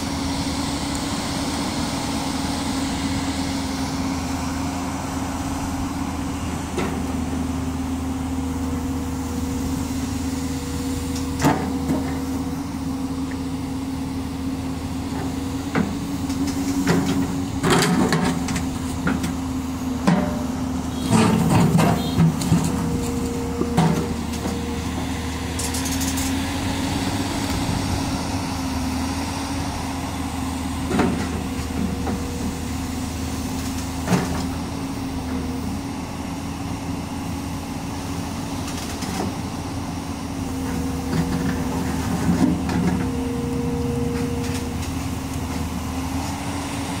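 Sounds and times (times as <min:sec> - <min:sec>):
excavator diesel engine running: 0:00.0 - 0:47.0
hydraulic whine: 0:00.0 - 0:47.0.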